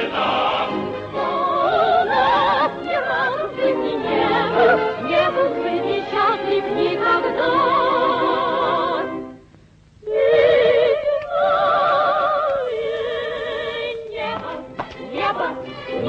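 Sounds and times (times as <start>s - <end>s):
operetta singing with vibrato: 0.0s - 9.3s, 10.0s - 16.0s.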